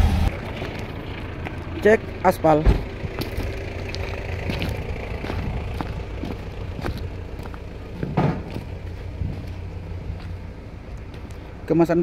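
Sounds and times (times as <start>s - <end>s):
steady low rumble: 0.0s - 11.7s
footsteps on stones and gravel: 0.3s - 11.5s.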